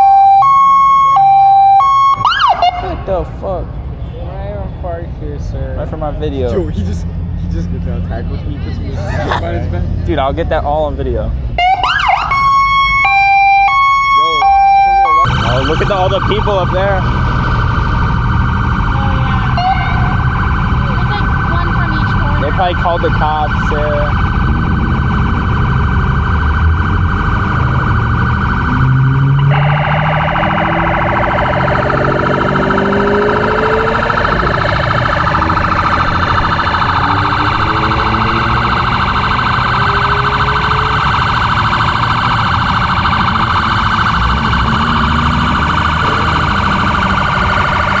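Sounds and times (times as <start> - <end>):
police siren warbling: 0.0 - 3.3, 6.3 - 10.0, 11.5 - 48.0.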